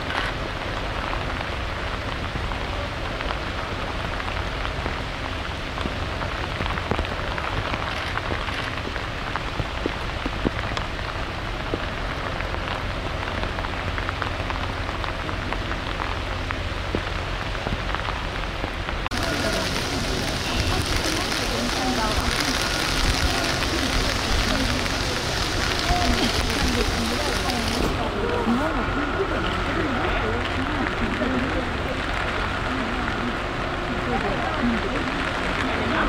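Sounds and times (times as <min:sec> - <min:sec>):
low rumble: 0:00.0 - 0:36.0
raindrops ticking nearby: 0:00.0 - 0:36.0
steady rain: 0:00.0 - 0:36.0.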